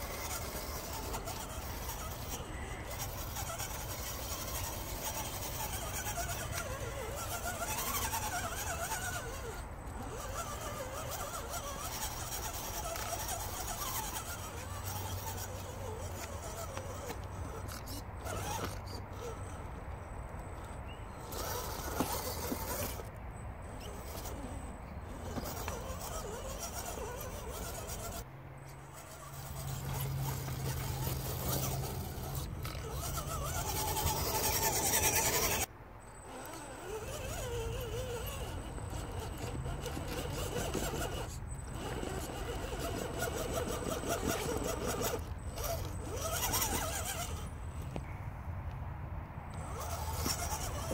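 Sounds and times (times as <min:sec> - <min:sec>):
toy truck motor whirring: 0:00.0 - 0:48.0, 0:49.5 - 0:50.9.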